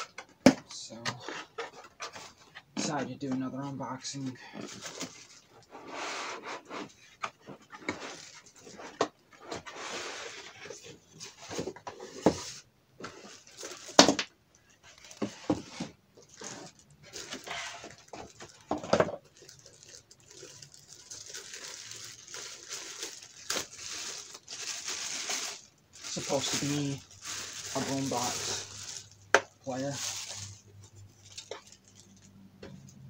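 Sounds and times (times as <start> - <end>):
plastic wrap rustling: 1.2 - 32.9.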